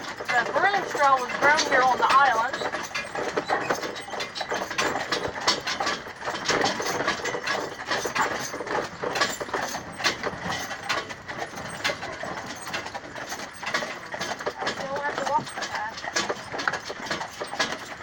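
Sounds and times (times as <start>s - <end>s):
carriage and harness rattling: 0.0s - 18.0s
horse hooves clopping: 0.0s - 18.0s.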